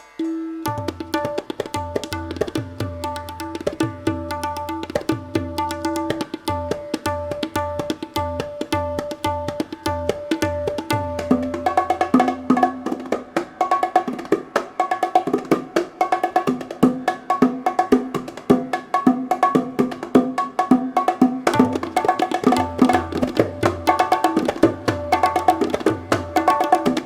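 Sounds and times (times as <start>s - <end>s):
hand drums playing fast rhythm: 0.6s - 27.0s.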